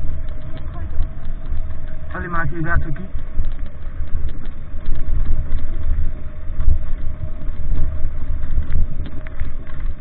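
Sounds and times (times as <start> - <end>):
faint steady hum: 0.0 - 10.0
small clicks and rattles: 0.0 - 10.0
vehicle engine rumble: 0.0 - 10.0.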